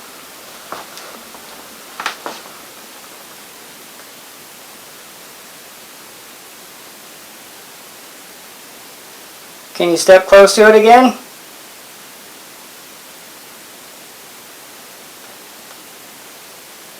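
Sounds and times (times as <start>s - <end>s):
room tone hiss: 0.0s - 16.9s.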